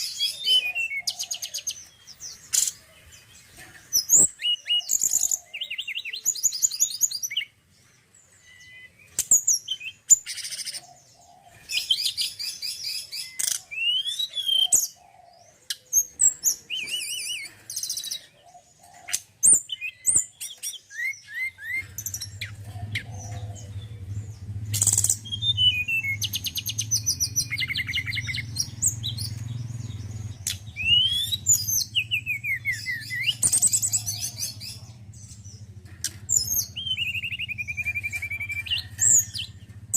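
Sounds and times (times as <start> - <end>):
bird chirps trills and whistles: 0.0 - 7.6, 8.3 - 39.9.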